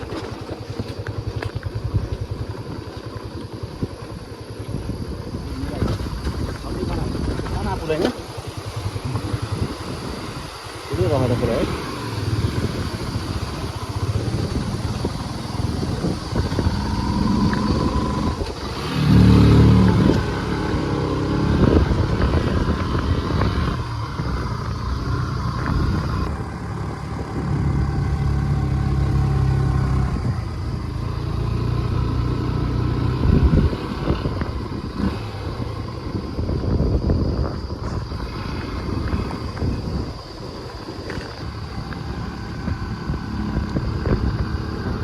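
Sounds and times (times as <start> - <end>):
vehicle engine under load: 0.0 - 45.0.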